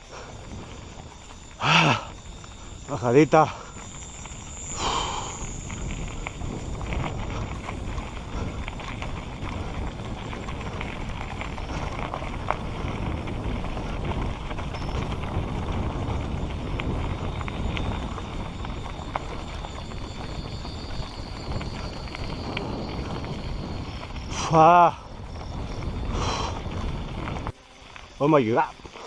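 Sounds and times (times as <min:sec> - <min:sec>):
bike rattling over bumps: 0:00.0 - 0:29.0
tyres crunching over dirt and stones: 0:00.3 - 0:29.0.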